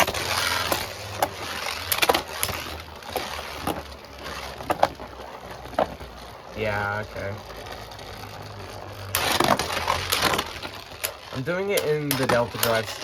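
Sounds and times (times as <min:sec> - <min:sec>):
spinning tops clacking: 0:00.0 - 0:13.0
spinning tops hissing: 0:00.0 - 0:13.0.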